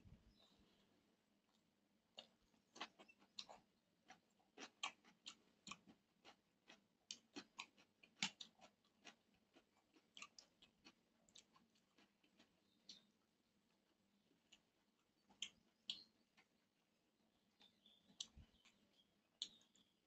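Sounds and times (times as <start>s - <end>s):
man chewing food: 1.5s - 19.9s.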